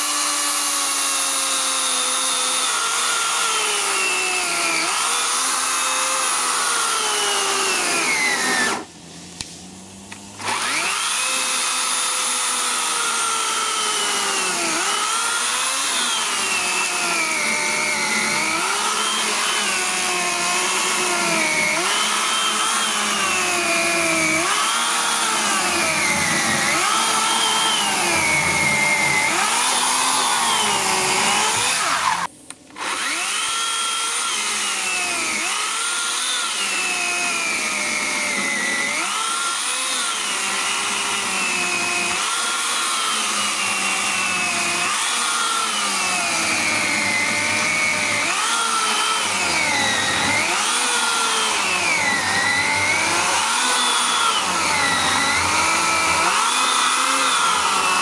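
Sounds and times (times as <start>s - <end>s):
electric chainsaw cutting log: 0.0s - 58.0s.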